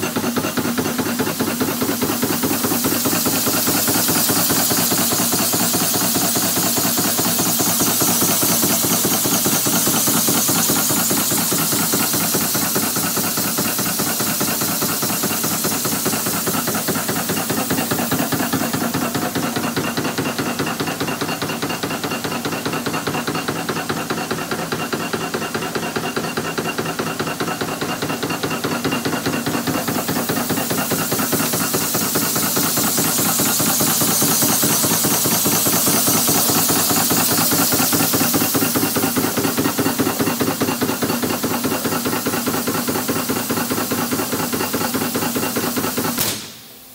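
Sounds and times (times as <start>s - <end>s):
punch press clacking: 0.0s - 46.7s.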